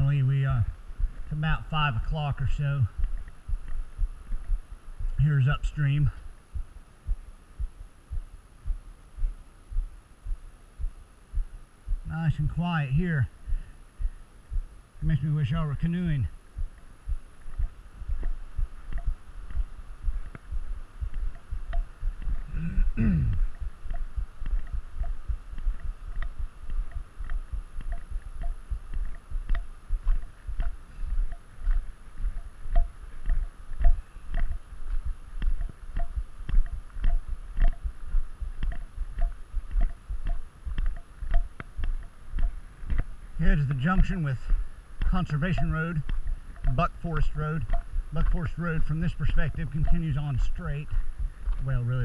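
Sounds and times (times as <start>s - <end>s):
footsteps crunching on gravel: 0.0s - 6.3s, 15.2s - 52.0s.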